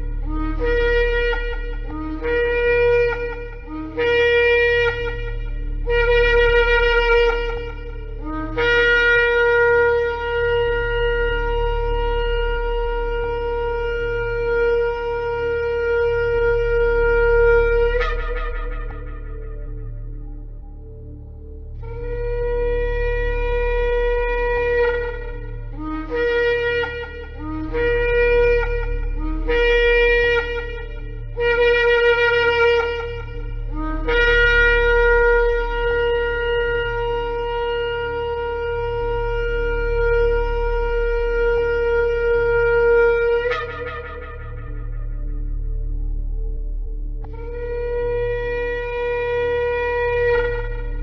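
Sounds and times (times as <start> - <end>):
shofar blasts: 0.0 - 51.0.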